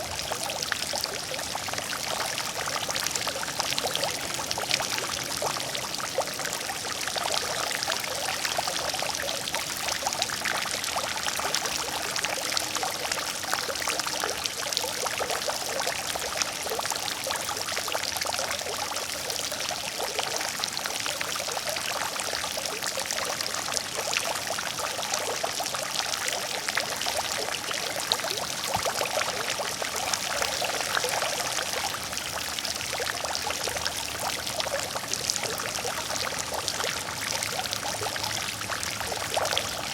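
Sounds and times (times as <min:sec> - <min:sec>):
water fountain splashing: 0:00.0 - 0:39.9.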